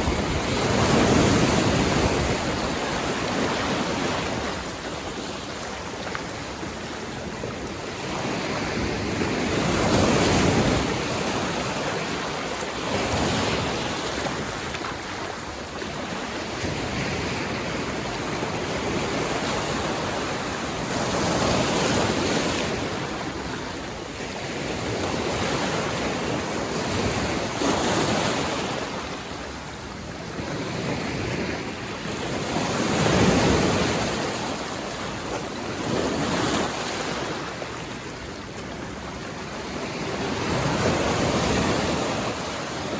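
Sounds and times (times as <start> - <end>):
waves breaking on beach: 0.0 - 42.9.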